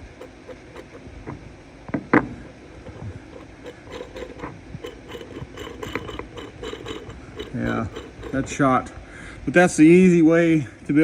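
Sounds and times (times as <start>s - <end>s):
bearing grinding rattle: 0.0s - 9.1s.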